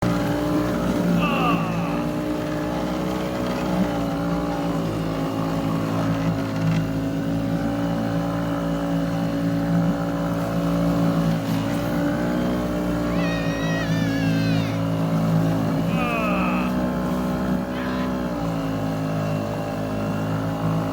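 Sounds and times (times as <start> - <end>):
small boat motors droning: 0.0 - 20.9.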